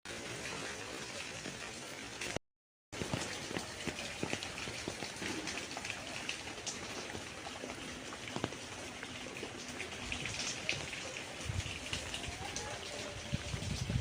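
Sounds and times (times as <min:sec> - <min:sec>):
rain falling: 0:00.1 - 0:02.4, 0:03.0 - 0:14.0.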